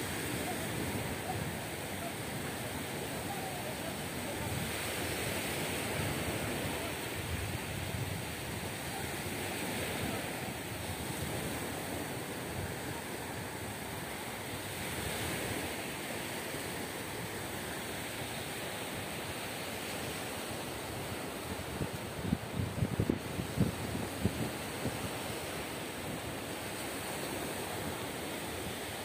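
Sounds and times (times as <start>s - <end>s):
wind rumbling on microphone: 0.0s - 15.8s, 20.6s - 29.0s
waves breaking on beach: 0.0s - 29.0s.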